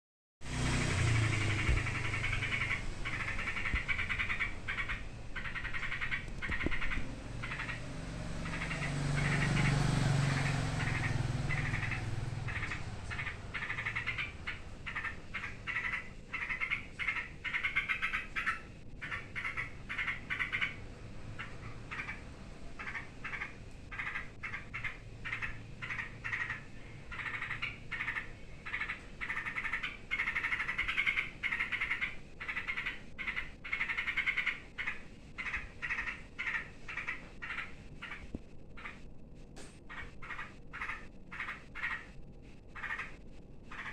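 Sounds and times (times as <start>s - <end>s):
birds chattering alarm calls: 0.5s - 39.0s, 39.8s - 43.9s.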